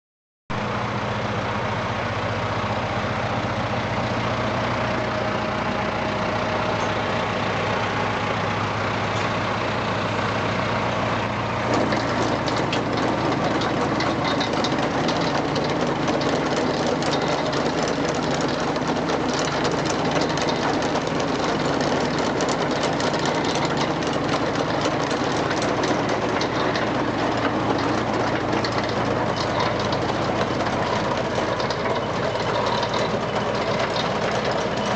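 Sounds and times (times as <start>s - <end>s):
tractor engine running: 0.5s - 34.9s
harvester metallic clattering: 5.9s - 34.9s.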